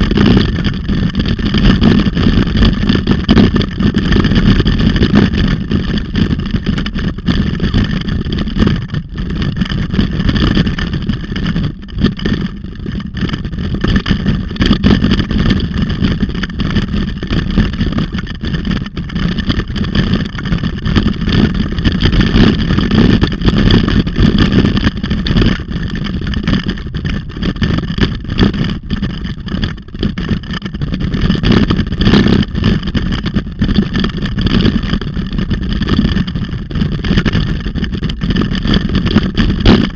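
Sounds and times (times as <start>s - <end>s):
wind buffeting microphone: 0.0s - 35.0s
trail vibration rumble: 0.0s - 39.9s.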